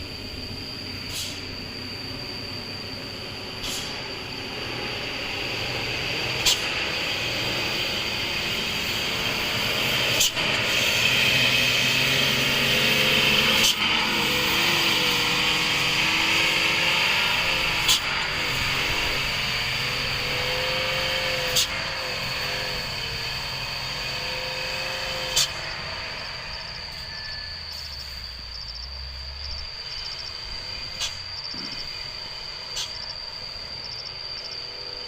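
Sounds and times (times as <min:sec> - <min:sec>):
truck engine running: 0:00.0 - 0:34.8
brake hiss: 0:00.0 - 0:35.0
truck brakes squealing: 0:00.0 - 0:35.0.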